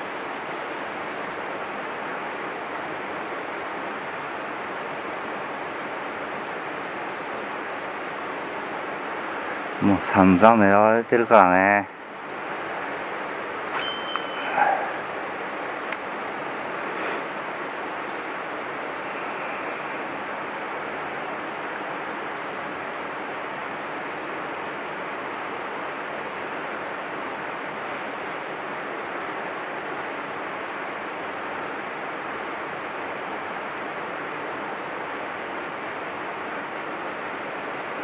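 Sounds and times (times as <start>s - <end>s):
mountain stream rushing: 0.0s - 38.0s.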